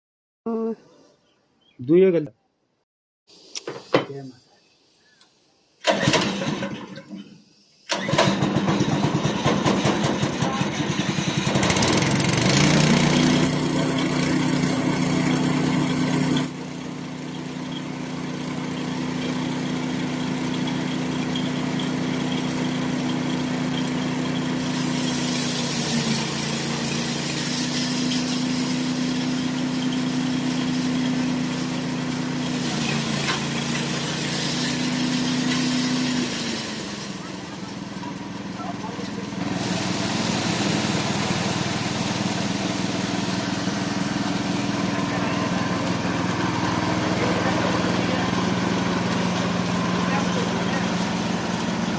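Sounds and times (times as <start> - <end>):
small petrol engine running: 5.8 - 7.0, 7.9 - 51.9.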